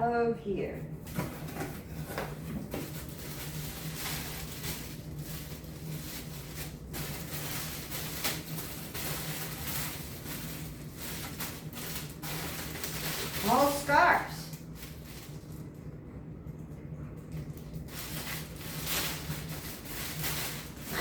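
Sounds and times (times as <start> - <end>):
packaging rustling and crinkling: 1.1 - 15.8, 17.3 - 21.0.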